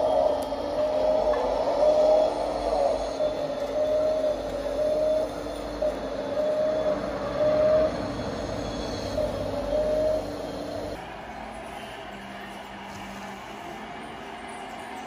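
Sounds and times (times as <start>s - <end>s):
high squeal: 0.0s - 12.6s.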